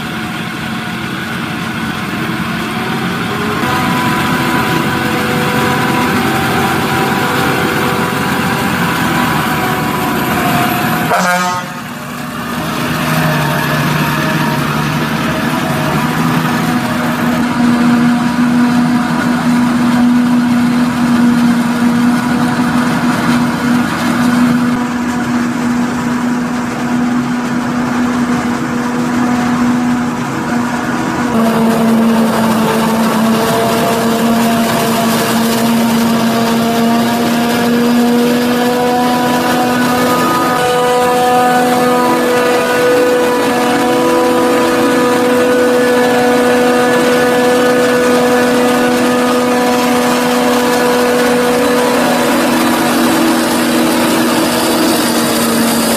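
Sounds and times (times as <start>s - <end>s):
diesel engines running: 0.0s - 55.9s.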